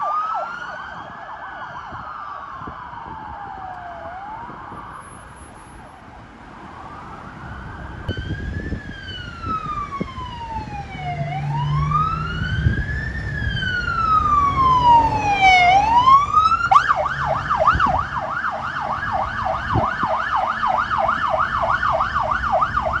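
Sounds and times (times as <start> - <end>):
police siren wailing and yelping: 0.0 - 5.5, 6.5 - 23.0
low traffic rumble: 0.0 - 23.0.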